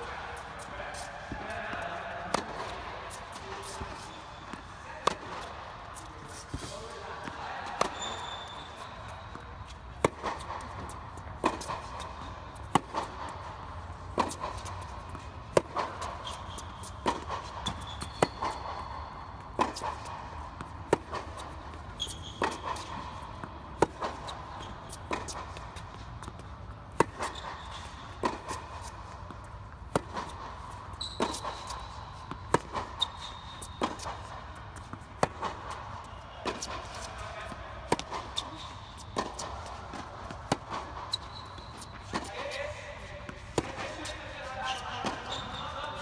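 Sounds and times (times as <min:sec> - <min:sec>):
shoes squeaking on court: 0:00.0 - 0:46.0
ball bouncing on hard court: 0:00.4 - 0:46.0.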